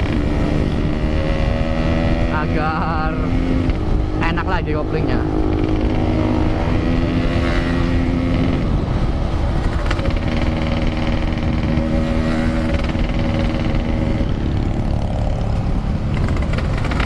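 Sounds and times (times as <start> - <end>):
two-stroke motorcycle running: 0.0 - 17.0
wind rumble: 0.0 - 17.0.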